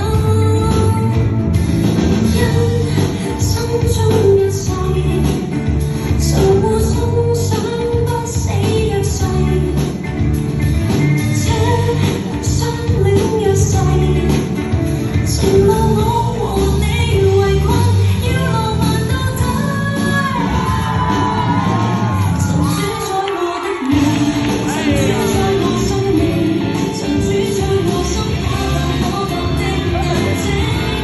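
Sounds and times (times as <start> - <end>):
pop song with female vocals: 0.0 - 31.0.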